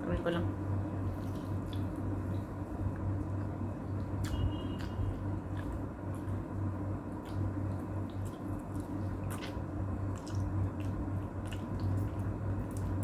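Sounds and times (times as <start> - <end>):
steady low hum: 0.0 - 13.0
wet squishing of food in hands: 0.8 - 13.0.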